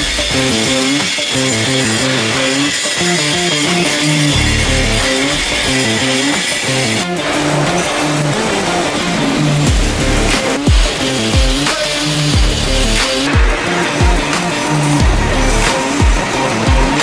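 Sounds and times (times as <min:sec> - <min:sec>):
electric guitar and bass music: 0:00.0 - 0:17.0.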